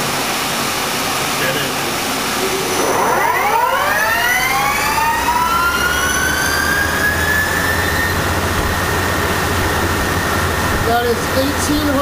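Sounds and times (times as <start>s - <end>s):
steady low hum: 0.0s - 12.0s
lathe spindle whine: 2.2s - 12.0s.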